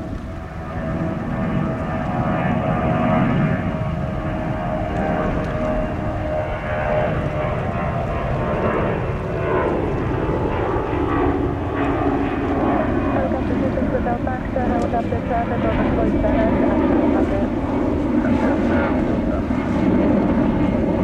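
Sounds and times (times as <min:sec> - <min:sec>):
jet engines running with whine: 0:00.0 - 0:21.0.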